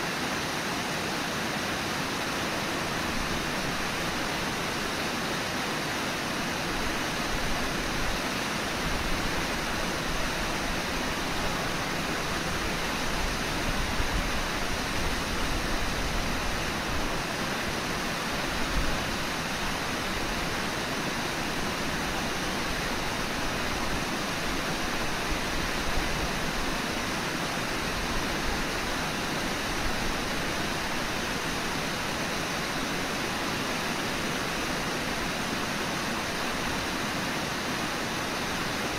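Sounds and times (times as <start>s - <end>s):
river water pouring over falls: 0.0s - 38.9s.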